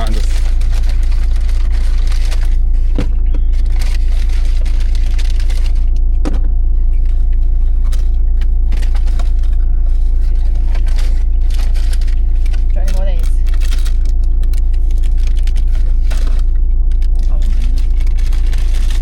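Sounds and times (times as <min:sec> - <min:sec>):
vehicle engine hum from cab: 0:00.0 - 0:19.0.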